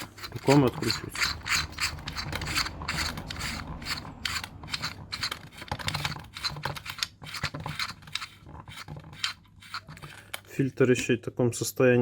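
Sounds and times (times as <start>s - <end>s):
air filter housing clicks and rattles: 0.0s - 10.5s.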